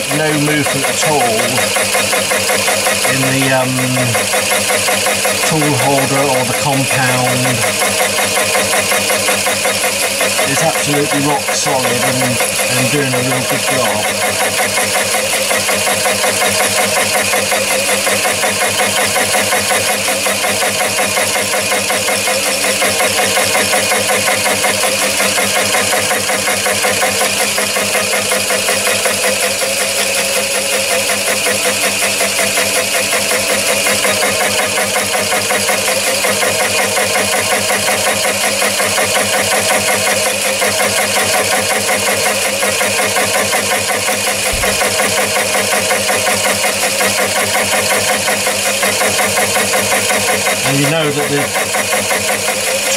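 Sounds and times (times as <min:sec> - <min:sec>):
lathe running: 0:00.0 - 0:52.9
saw cutting into brass: 0:00.0 - 0:52.9.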